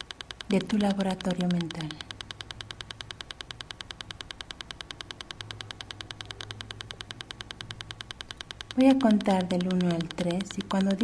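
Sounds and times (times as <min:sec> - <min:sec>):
steady clicking pulse: 0:00.0 - 0:11.0.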